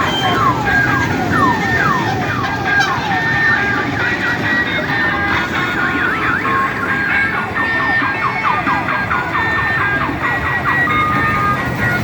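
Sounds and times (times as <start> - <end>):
electronic siren wail: 0.0 - 12.0.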